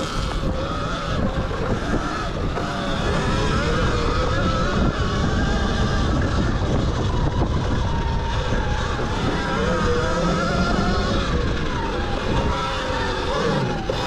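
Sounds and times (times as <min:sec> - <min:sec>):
electric motor whine: 0:00.0 - 0:14.0
wind rush on microphone: 0:00.0 - 0:14.0.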